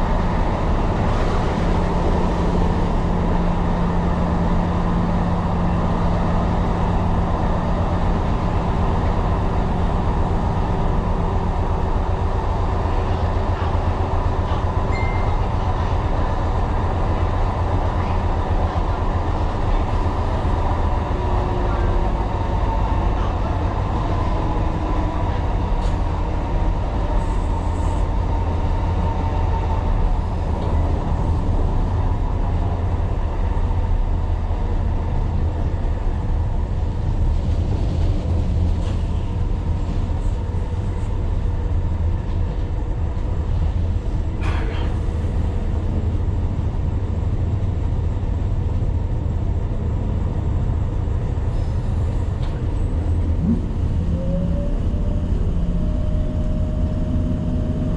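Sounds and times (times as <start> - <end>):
train wheels rumbling: 0.0 - 57.9.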